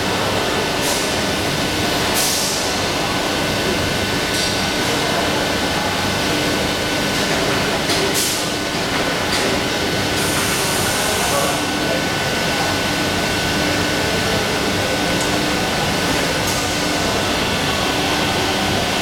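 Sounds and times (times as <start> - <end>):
machine mechanical hum: 0.0 - 19.0.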